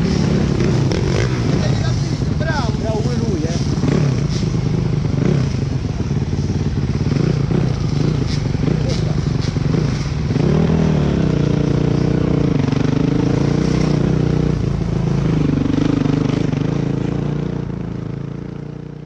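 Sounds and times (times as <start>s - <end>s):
motocross bike engine running: 0.0s - 19.0s.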